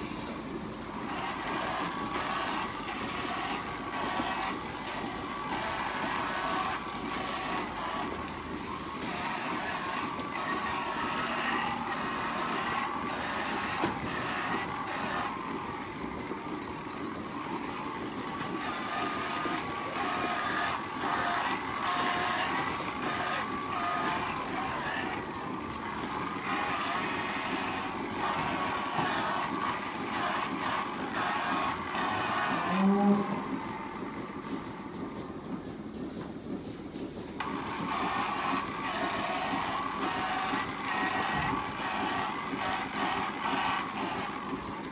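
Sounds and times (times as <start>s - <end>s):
milking machinery noise: 0.0s - 44.9s
electric rotary brush whirring: 1.0s - 16.1s, 17.5s - 34.1s, 37.4s - 44.9s.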